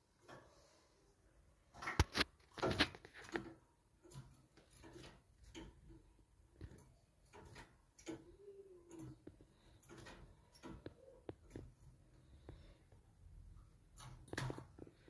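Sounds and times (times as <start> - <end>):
faint clicks and taps: 1.7 - 15.0.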